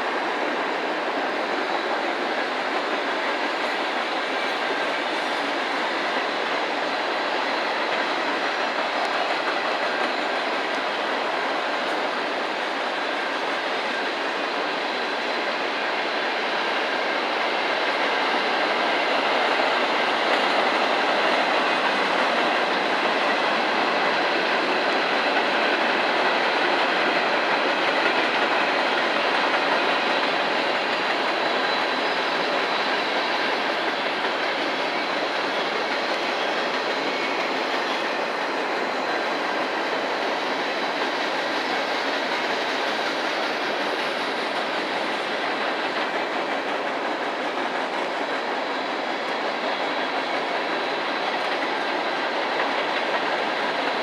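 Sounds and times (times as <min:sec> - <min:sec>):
train cars rumbling on track: 0:00.0 - 0:54.0.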